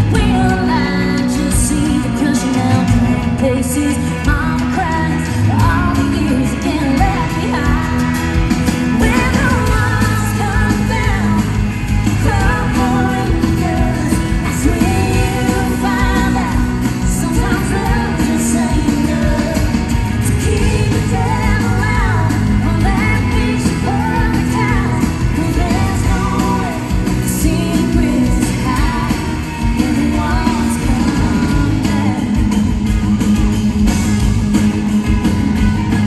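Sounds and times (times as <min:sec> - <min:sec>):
woman singing: 0:00.0 - 0:32.9
bass guitar: 0:00.0 - 0:36.0
drums: 0:00.0 - 0:36.0
electric guitar: 0:00.0 - 0:36.0.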